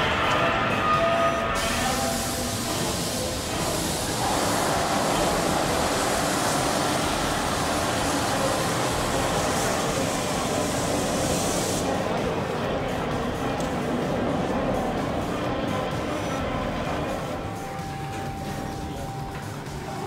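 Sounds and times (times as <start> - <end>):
street bustle: 0.0 - 20.0.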